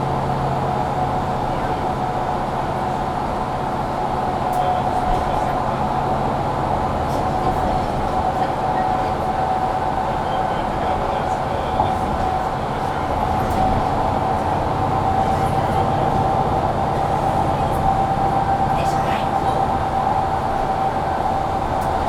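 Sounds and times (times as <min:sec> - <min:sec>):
bus drivetrain and road noise: 0:00.0 - 0:22.0.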